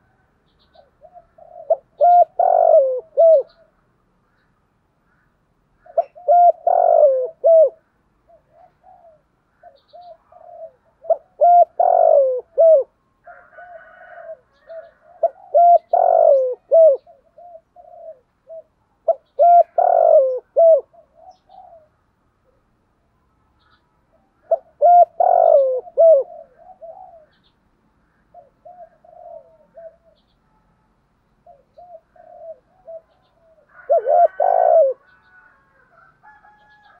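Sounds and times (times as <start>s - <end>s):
dove cooing: 0.0s - 3.8s, 5.8s - 22.8s, 23.6s - 30.6s, 31.4s - 37.0s.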